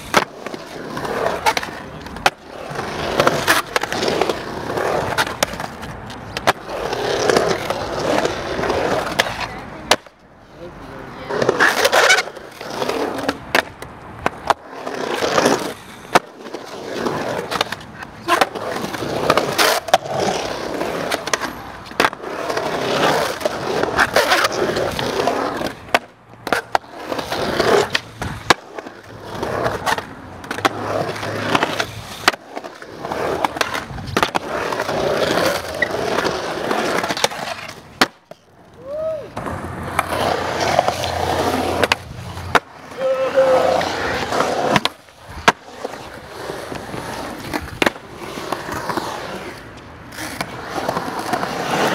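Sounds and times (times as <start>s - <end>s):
skateboard pops and landings: 0.0s - 10.1s, 11.4s - 38.4s, 39.3s - 42.8s, 43.8s - 49.4s
trucks scraping on coping: 0.0s - 13.6s, 14.2s - 38.1s, 38.8s - 51.9s
skateboard wheels rolling on concrete: 0.0s - 51.9s.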